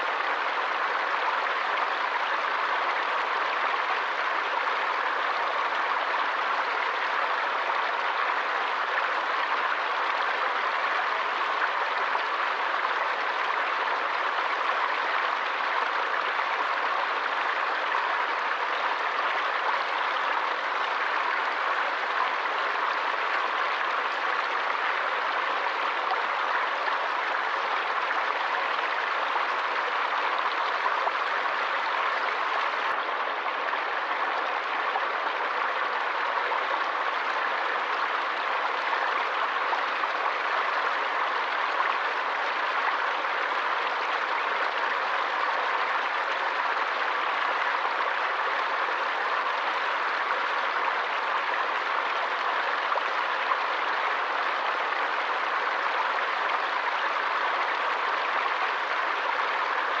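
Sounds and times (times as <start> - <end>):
stream water rushing: 0.0 - 60.0.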